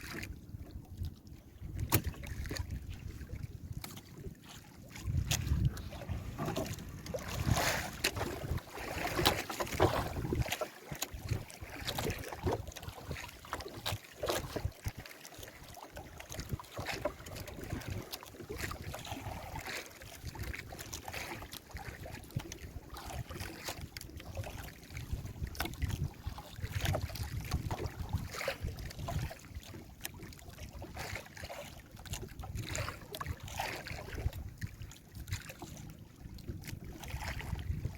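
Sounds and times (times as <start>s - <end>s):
wind rumbling on microphone: 0.0s - 15.0s, 15.6s - 31.3s, 32.0s - 37.9s
water slapping around boat: 0.0s - 37.9s.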